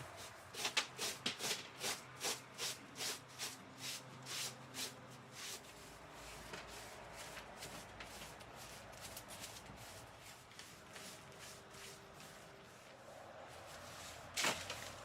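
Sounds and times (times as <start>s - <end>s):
brush scrubbing a surface: 0.0s - 15.0s.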